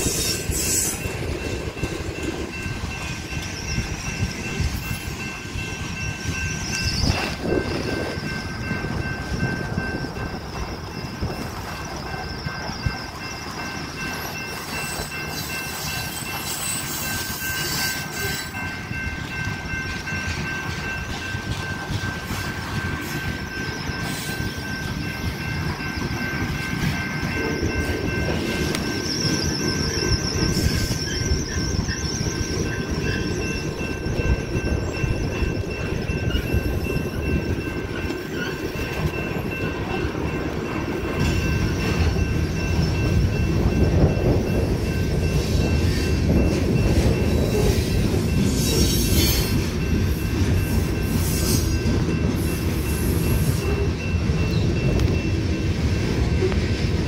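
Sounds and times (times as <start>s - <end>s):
high wheel squeal: 0.0s - 1.3s, 2.5s - 21.3s, 22.1s - 55.3s
freight train cars rolling past: 0.0s - 57.0s.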